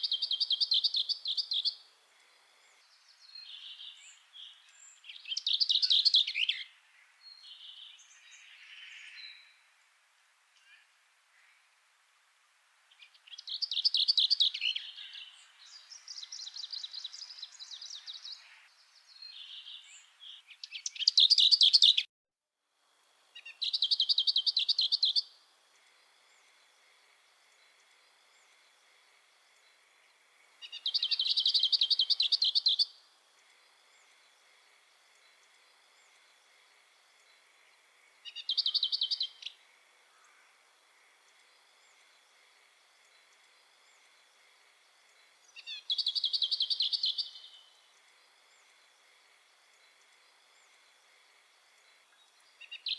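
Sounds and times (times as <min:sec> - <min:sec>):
songbirds singing: 0:00.0 - 0:11.9, 0:12.8 - 0:22.1, 0:23.3 - 0:52.9.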